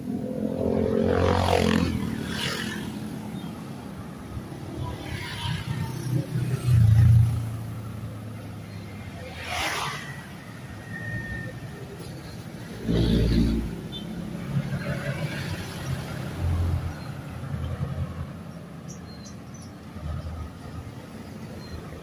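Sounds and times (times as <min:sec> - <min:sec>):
motorcycles passing: 0:00.0 - 0:22.0.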